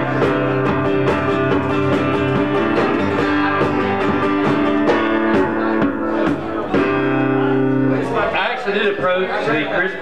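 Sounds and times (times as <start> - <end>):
acoustic guitar strumming: 0.0 - 9.3.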